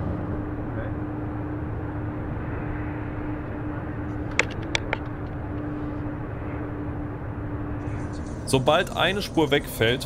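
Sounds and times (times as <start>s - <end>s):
road and engine rumble: 0.0s - 10.0s
steady hum: 0.2s - 10.0s.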